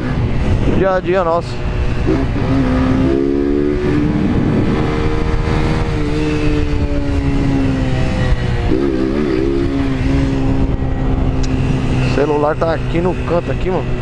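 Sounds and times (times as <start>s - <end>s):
motorcycle engine running: 0.0s - 14.0s
wind and road noise: 0.0s - 14.0s.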